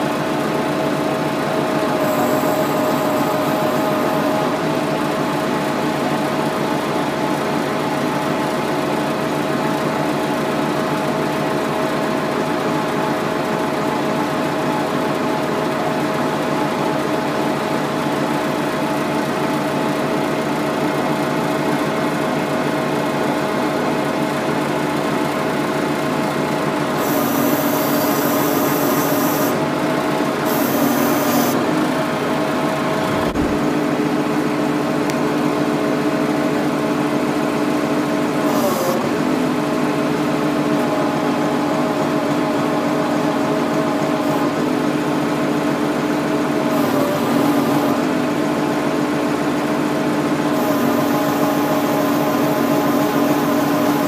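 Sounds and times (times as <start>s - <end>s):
hydraulic machine whining: 0.0s - 21.4s, 25.0s - 54.0s.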